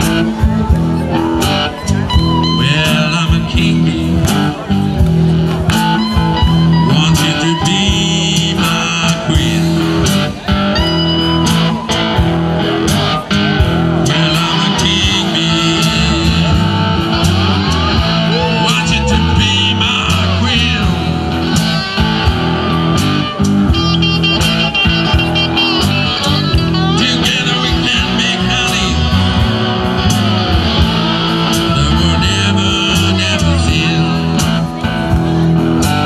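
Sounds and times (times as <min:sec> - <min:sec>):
blues band with electric guitars: 0:00.0 - 0:36.0.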